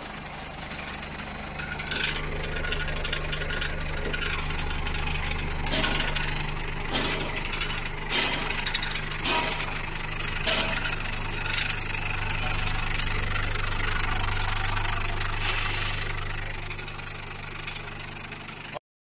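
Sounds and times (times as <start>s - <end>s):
vibratory motor hum: 0.0s - 18.8s
media rattling in trough: 1.3s - 16.8s.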